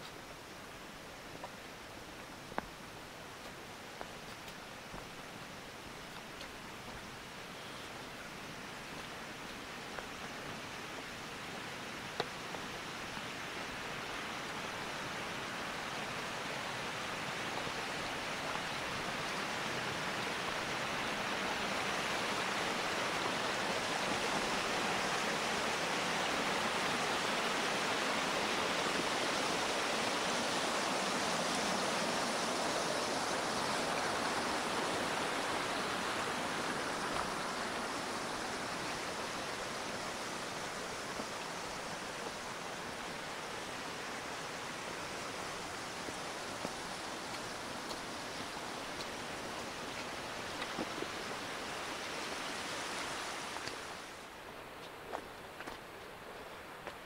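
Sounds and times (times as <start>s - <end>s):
mountain stream rushing over rocks: 0.0s - 57.0s.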